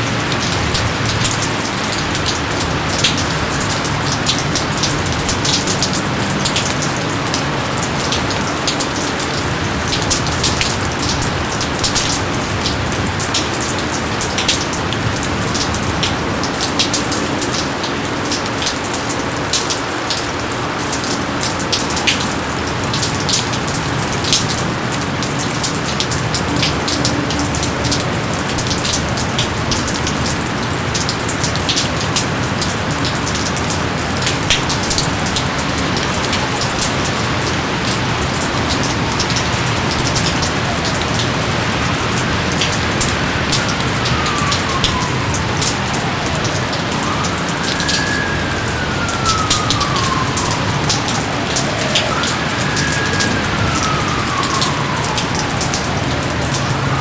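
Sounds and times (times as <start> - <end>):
raindrops pattering and splashing: 0.0 - 57.0
steady rain hiss: 0.0 - 57.0.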